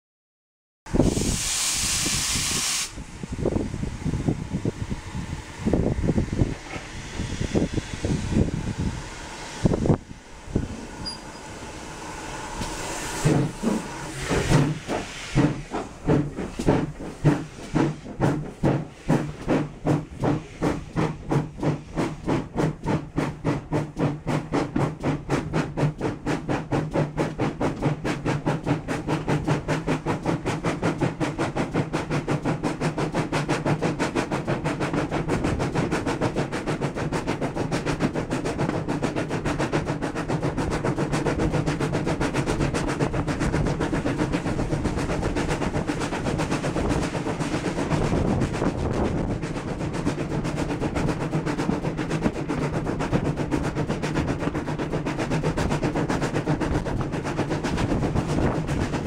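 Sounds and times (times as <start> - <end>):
steam locomotive exhaust chuffing: 0.9 - 59.0.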